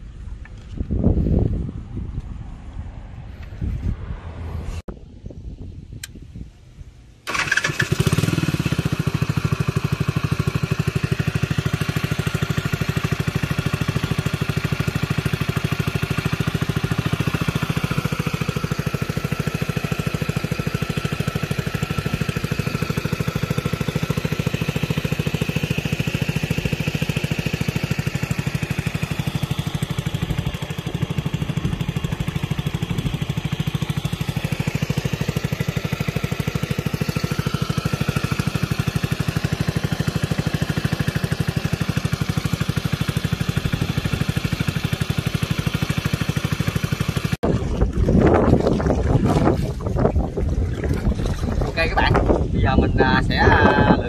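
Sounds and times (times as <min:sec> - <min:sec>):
boat motor running: 0:07.3 - 0:54.0.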